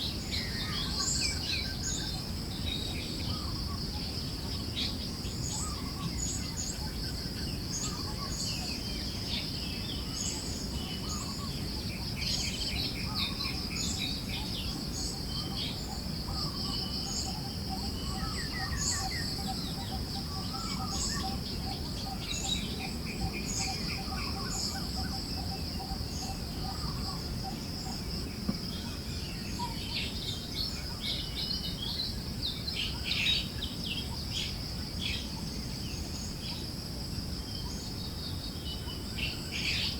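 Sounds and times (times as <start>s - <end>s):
high insect drone: 0.0s - 39.9s
songbirds chirping: 0.0s - 39.9s.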